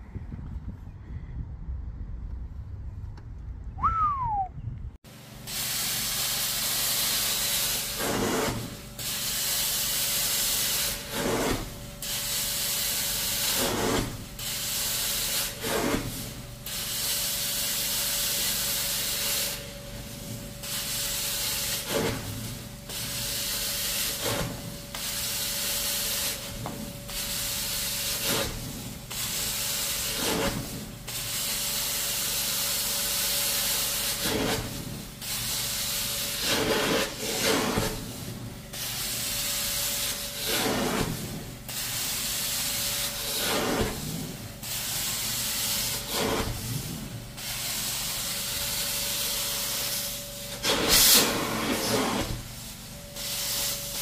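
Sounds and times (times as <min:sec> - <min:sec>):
extraction wand spraying and sucking: 0:05.3 - 0:54.0.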